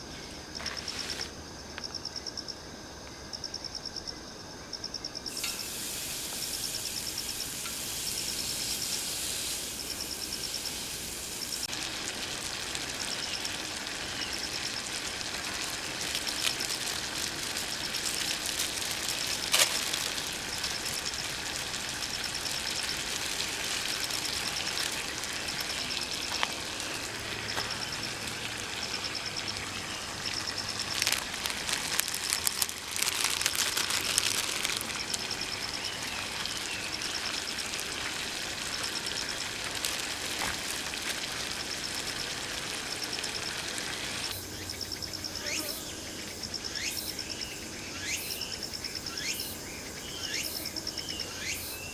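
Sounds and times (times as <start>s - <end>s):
crackling hiss: 0.0s - 51.9s
crickets chirping: 0.0s - 51.9s.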